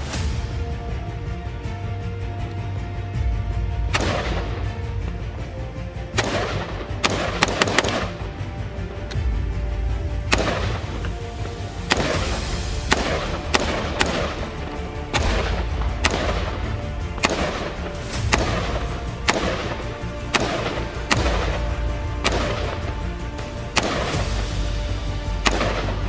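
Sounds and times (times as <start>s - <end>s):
background music: 0.0s - 26.0s
rifle single shots with echo: 0.0s - 26.0s.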